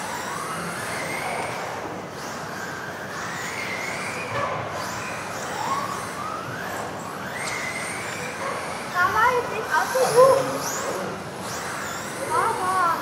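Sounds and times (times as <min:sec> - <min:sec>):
rc car electric motors whining: 0:00.0 - 0:13.0.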